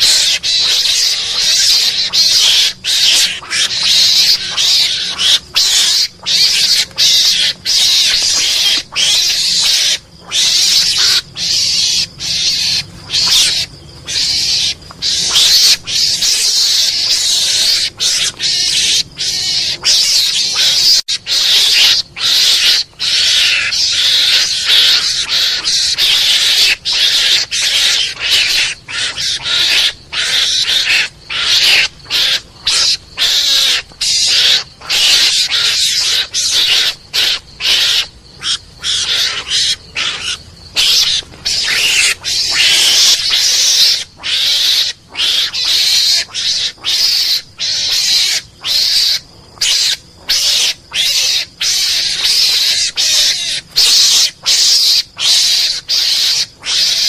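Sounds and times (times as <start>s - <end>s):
harsh hissing rasping chatter: 0.0s - 57.0s.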